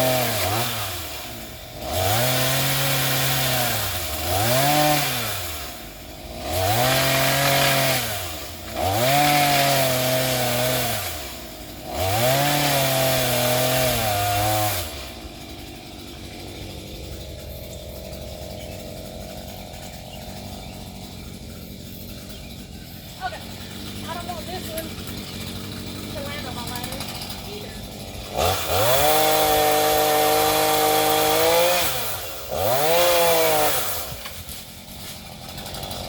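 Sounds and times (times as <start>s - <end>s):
chainsaw revving: 0.0s - 36.0s.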